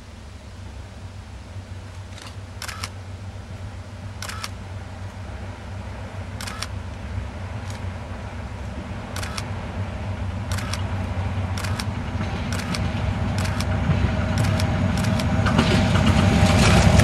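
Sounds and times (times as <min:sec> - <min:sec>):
locomotive engine drone: 0:00.0 - 0:17.0.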